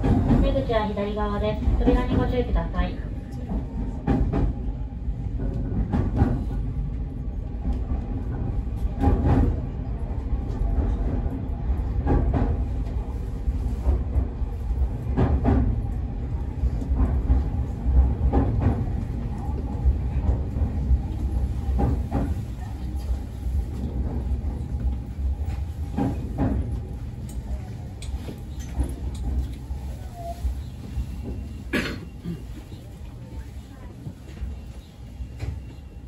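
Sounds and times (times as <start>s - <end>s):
electric train rumbling: 0.0s - 36.0s.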